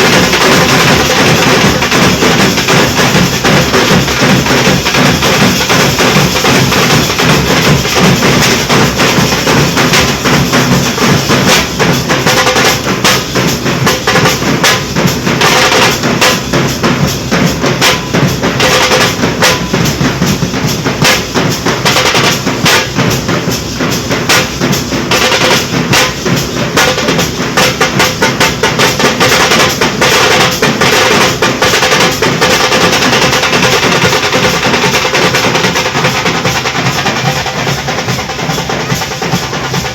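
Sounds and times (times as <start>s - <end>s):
dhol drums played loudly: 0.0s - 39.9s.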